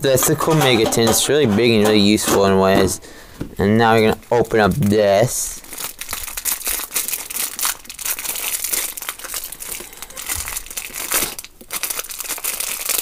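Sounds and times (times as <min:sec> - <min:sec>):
plastic wrapper crinkling: 0:01.6 - 0:13.0.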